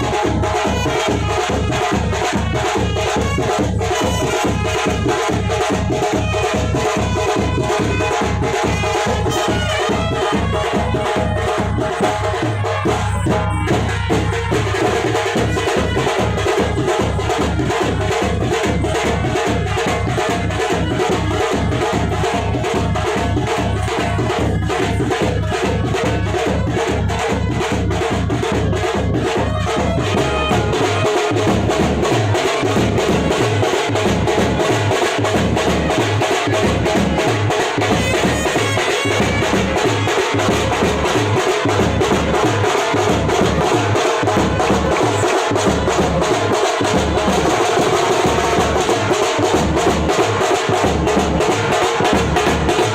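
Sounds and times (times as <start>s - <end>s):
music with percussive beat: 0.0s - 52.9s.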